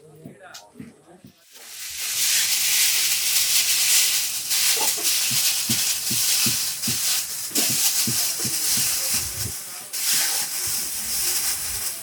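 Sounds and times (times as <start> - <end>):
loud steady hissing: 1.4 - 12.0.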